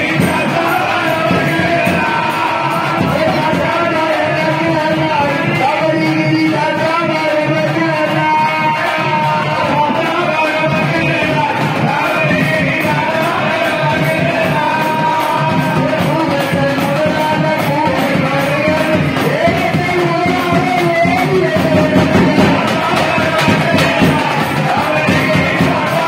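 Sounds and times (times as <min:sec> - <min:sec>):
loud rhythmic instrumental music: 0:00.0 - 0:26.0
person singing devotional song: 0:00.0 - 0:26.0.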